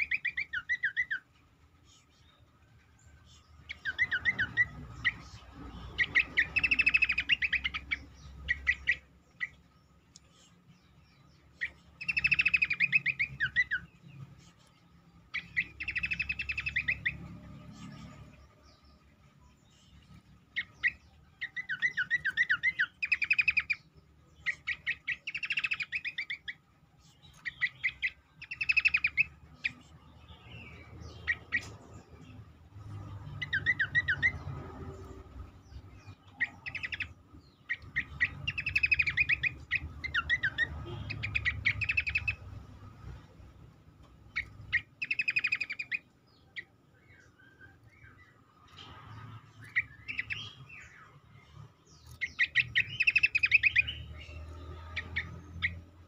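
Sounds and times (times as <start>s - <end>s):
bird singing trilled phrases: 0.0s - 43.6s, 44.2s - 56.0s.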